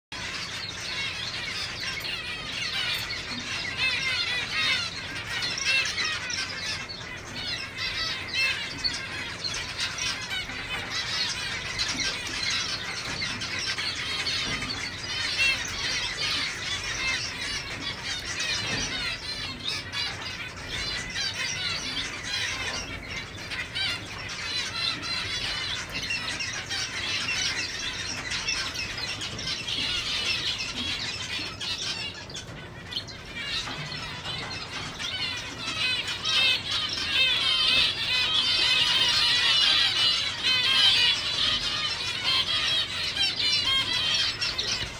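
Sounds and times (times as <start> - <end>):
finches chirping: 0.1 - 44.9.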